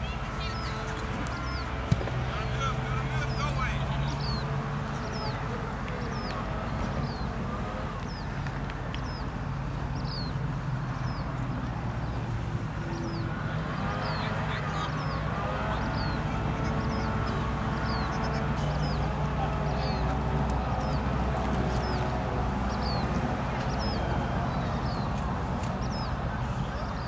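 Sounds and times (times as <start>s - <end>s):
distant players calling: 0.0s - 10.4s, 12.8s - 27.0s.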